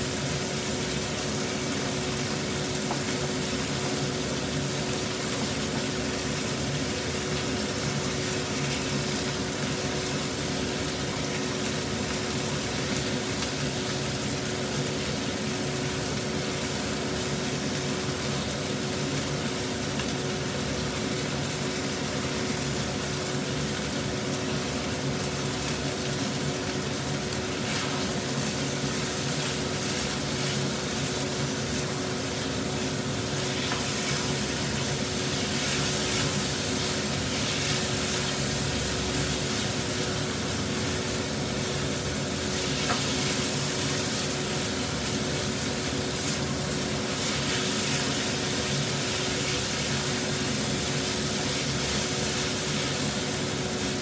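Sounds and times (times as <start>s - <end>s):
chicken and shrimp sizzling: 0.0s - 54.0s.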